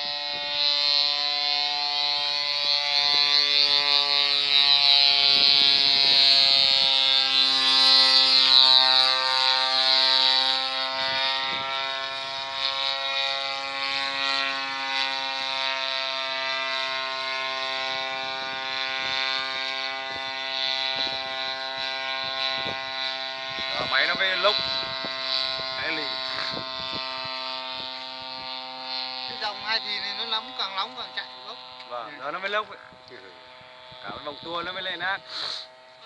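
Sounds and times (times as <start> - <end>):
model plane engine buzzing: 0.0 - 36.0.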